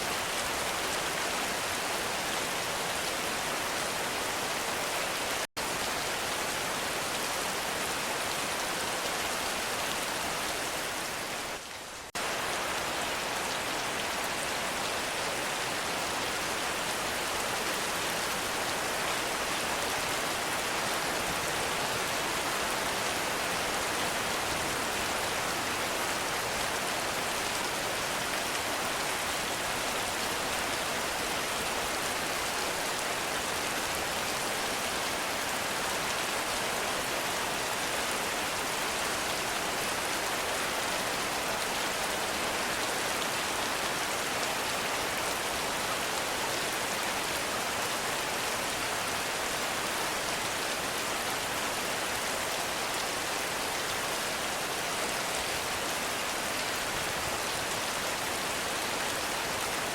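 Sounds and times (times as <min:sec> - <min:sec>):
heavy rain in forest: 0:00.0 - 0:59.9.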